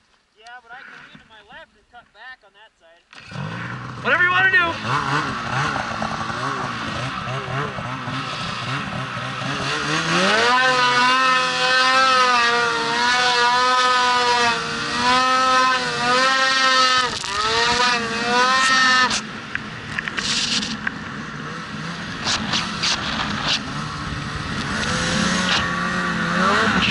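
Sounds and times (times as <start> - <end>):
snowmobile engine revving: 3.1 - 26.9.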